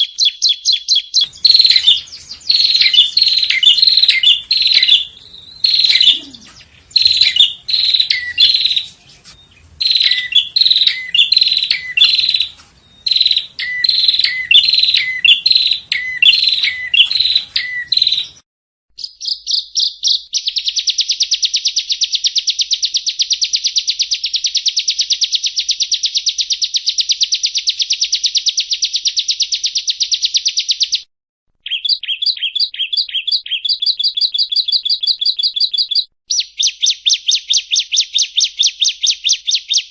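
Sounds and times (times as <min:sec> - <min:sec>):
fast bird trill: 0:00.0 - 0:18.4, 0:19.0 - 0:39.9
recorded birdsong chirpy phrases: 0:00.0 - 0:18.4, 0:19.0 - 0:39.9.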